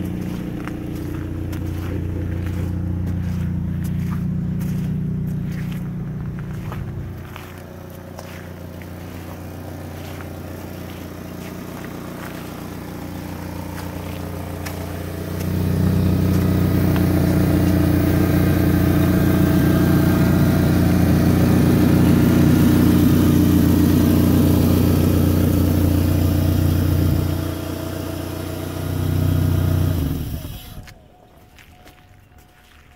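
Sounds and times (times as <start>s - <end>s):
pickup engine idling: 0.0s - 31.4s.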